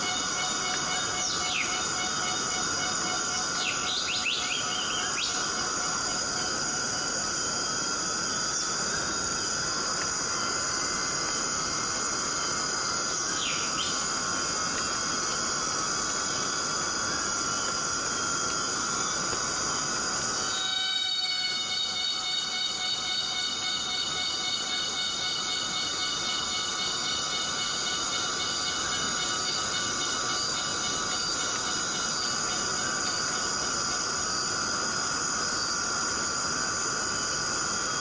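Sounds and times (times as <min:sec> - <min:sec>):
insects droning: 0:00.0 - 0:38.0
steady rain hiss: 0:00.0 - 0:38.0.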